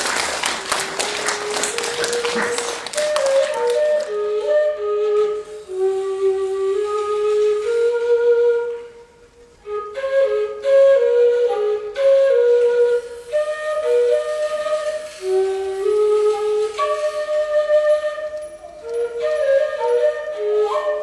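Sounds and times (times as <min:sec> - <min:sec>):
flute-like wind instrument melody: 0:00.2 - 0:21.0.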